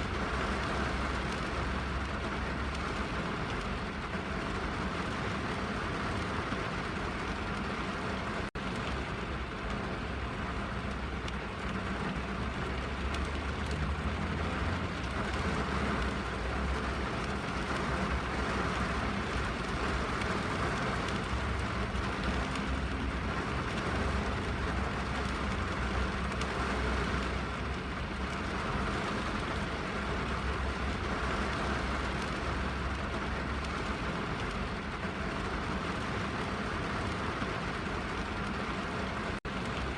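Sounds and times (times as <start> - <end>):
rain on a car: 0.0 - 39.9.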